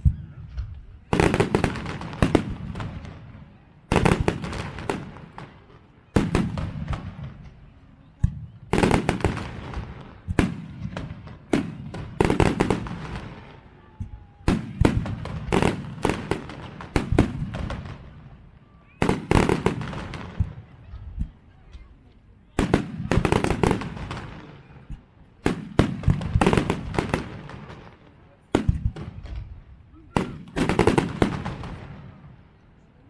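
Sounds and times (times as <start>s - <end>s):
rumble and crackle of fireworks: 0.0s - 33.0s
fireworks bursting with bangs: 1.0s - 21.4s, 22.5s - 32.6s.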